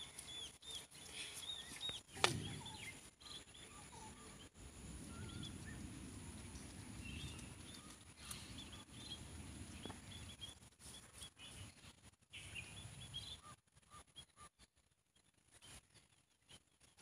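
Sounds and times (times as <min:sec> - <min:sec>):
faint small bird chirps: 0:00.0 - 0:17.0.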